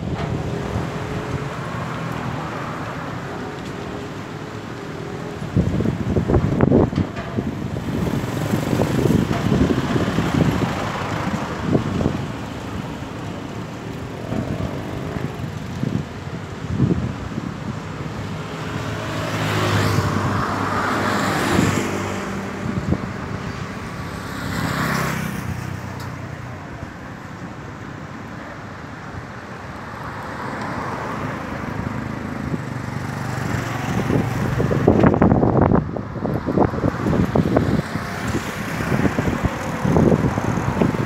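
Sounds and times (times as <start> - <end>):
strong wind gusting: 0.0 - 27.2, 30.9 - 41.0
wind buffeting microphone: 0.0 - 27.2, 31.0 - 41.0.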